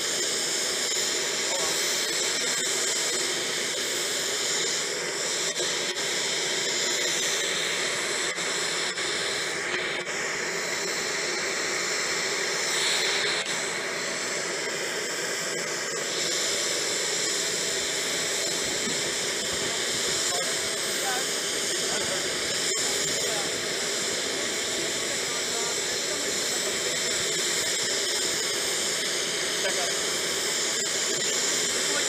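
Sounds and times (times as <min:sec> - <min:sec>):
jet turbine hiss and whine: 0:00.0 - 0:32.0.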